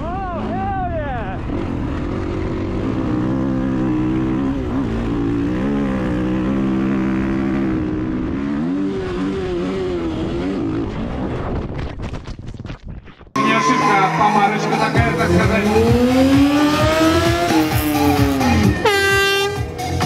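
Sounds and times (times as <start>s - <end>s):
dirt bike engine revving: 0.0s - 11.4s, 13.4s - 19.8s.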